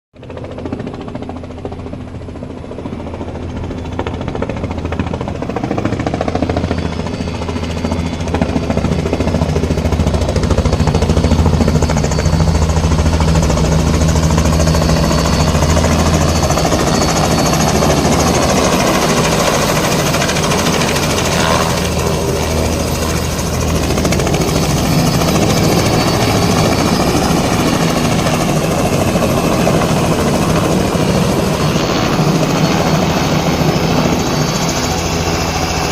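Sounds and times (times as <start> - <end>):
helicopter rotor chop and engine whine: 0.2 - 35.9.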